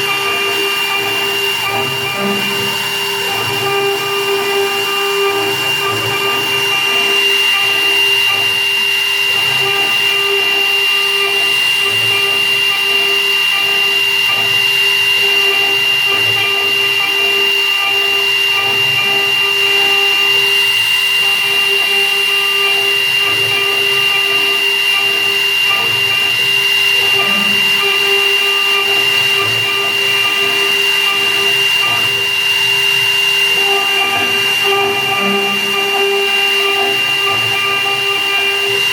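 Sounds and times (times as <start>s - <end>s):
milling machine spindle whine: 0.0s - 38.9s.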